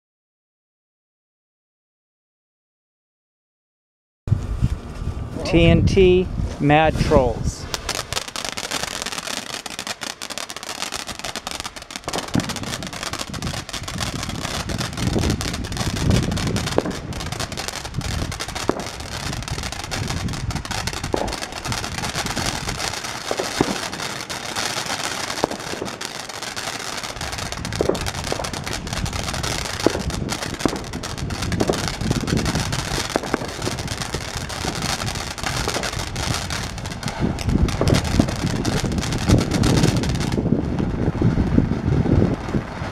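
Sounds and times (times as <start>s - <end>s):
firework fountain hissing: 7.0s - 42.9s
firework crackles and pops: 7.3s - 42.9s.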